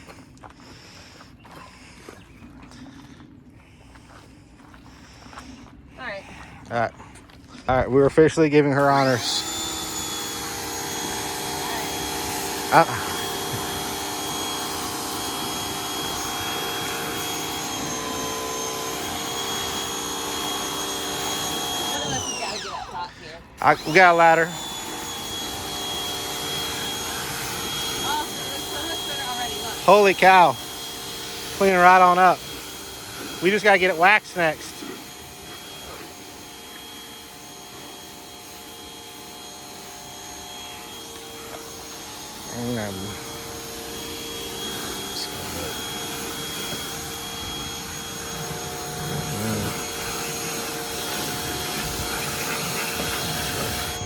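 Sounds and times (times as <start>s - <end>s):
pressure washer motor humming: 7.6s - 54.0s
water spray hissing: 8.8s - 54.0s.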